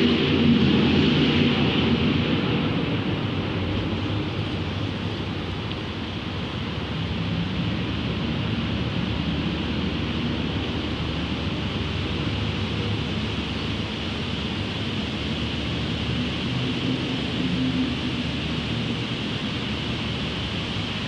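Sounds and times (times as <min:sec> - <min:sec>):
low city rumble: 0:00.0 - 0:21.0.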